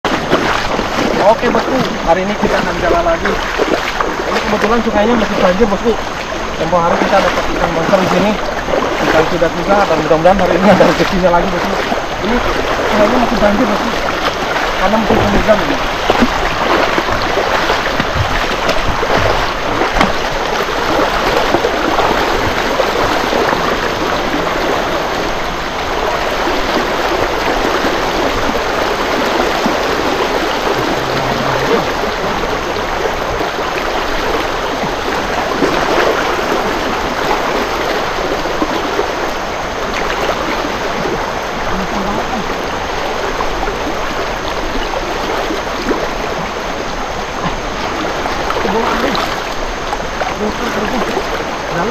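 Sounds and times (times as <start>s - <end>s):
floodwater rushing: 0.0s - 51.9s.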